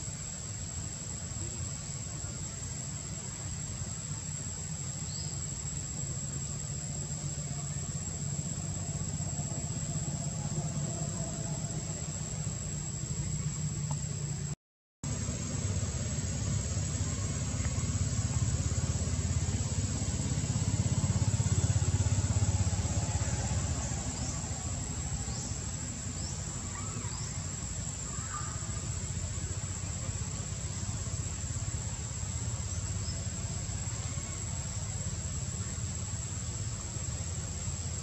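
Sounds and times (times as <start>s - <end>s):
high insect whine: 0.0s - 38.0s.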